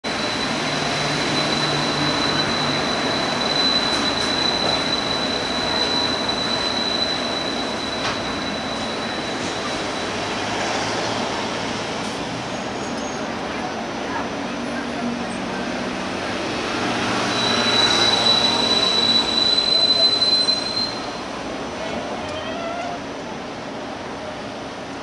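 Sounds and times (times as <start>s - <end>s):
metro train rolling past: 0.0s - 25.0s.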